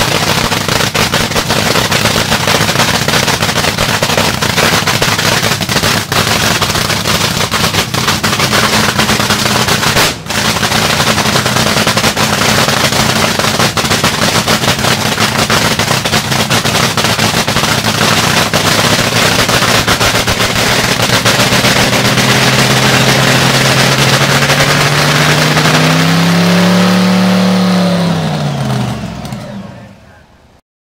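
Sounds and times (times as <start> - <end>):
supercharged engine crackling idle: 0.0 - 30.2.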